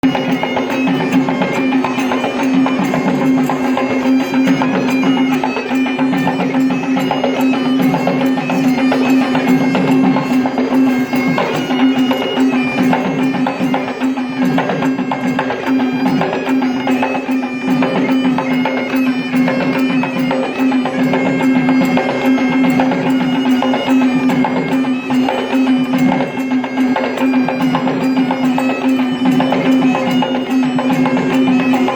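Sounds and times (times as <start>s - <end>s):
drumming: 0.0s - 31.9s
reed pipe melody: 0.0s - 31.9s.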